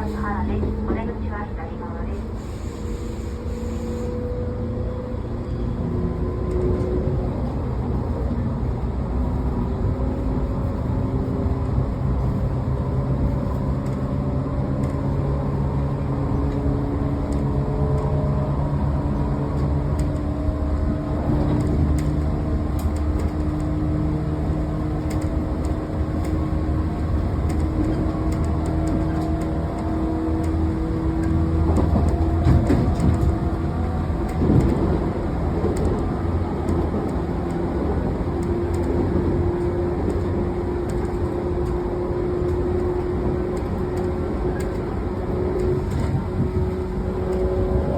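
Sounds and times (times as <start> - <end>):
wheels rumbling on rail: 0.0 - 47.9.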